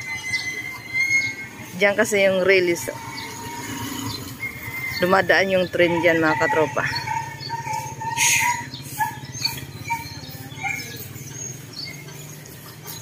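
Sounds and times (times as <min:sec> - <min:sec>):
low street hum: 0:00.0 - 0:13.0
small birds chirping: 0:00.0 - 0:13.0.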